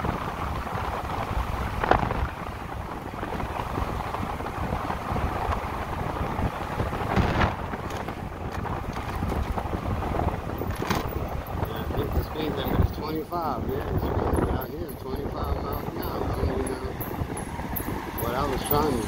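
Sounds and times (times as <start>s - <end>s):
motorcycle tyre and road noise: 0.0s - 19.0s
wind rushing over microphone: 0.0s - 19.0s.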